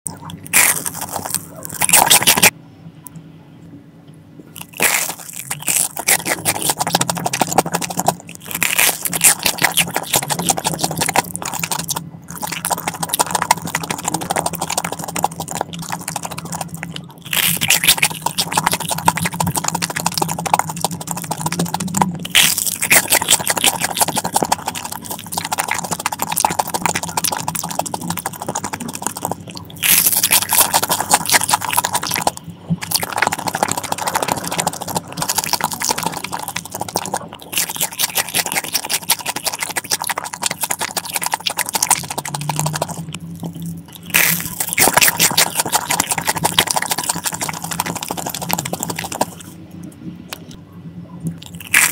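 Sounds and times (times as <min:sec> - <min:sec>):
crunching and chewing food: 0:00.0 - 0:02.6, 0:04.5 - 0:49.6, 0:51.3 - 0:51.9.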